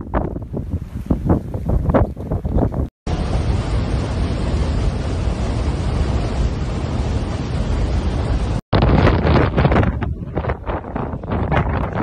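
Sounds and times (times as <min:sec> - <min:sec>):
strong blizzard wind blowing: 0:00.0 - 0:12.0.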